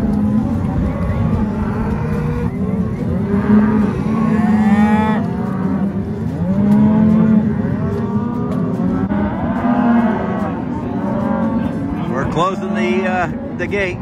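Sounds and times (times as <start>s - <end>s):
cattle mooing: 0.0s - 13.7s.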